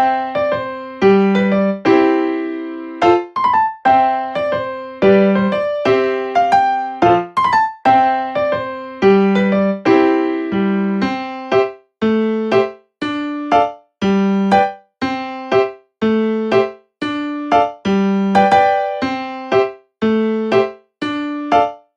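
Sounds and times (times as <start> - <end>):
electric piano chords: 0.0 - 21.9.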